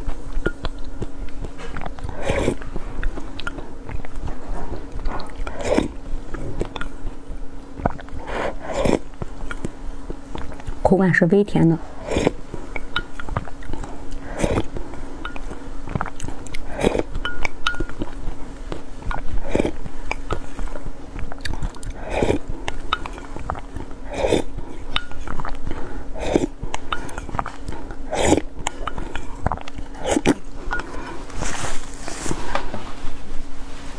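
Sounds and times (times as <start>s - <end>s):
faint steady hum: 0.0s - 33.9s
person slurping thick paste: 1.3s - 7.1s, 7.7s - 9.7s, 11.8s - 18.3s, 19.0s - 32.7s.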